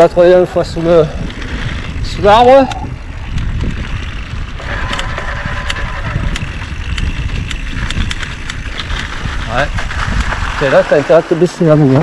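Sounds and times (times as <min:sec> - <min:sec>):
bike rattles and clicks: 0:00.0 - 0:12.0
wind and tyres rumbling: 0:00.0 - 0:12.0.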